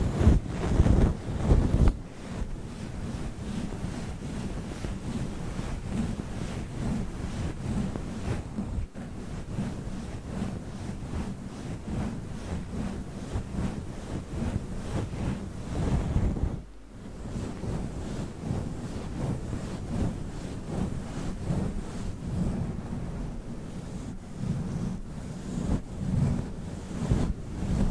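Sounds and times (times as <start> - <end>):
windscreen rubbing on microphone: 0.0 - 27.9.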